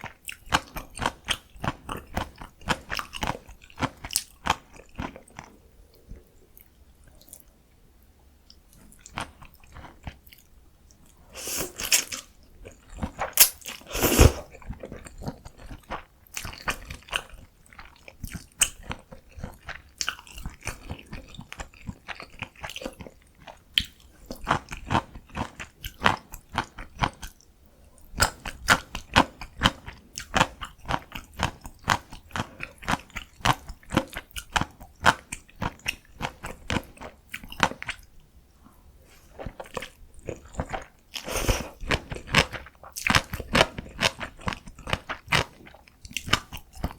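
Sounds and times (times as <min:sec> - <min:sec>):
person chewing noodles: 0:00.0 - 0:07.6, 0:08.5 - 0:38.1, 0:39.0 - 0:46.9.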